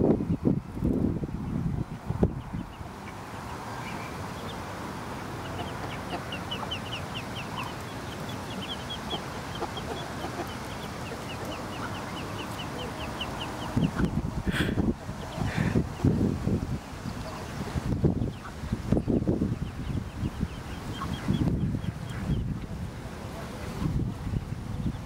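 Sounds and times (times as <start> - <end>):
ducklings peeping: 0.2 - 25.0.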